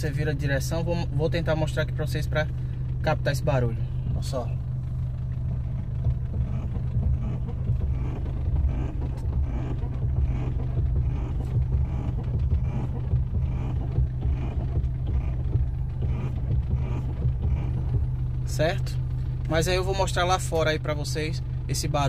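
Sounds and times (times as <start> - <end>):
car engine idling: 0.0 - 22.0
steering creaking: 0.0 - 22.0.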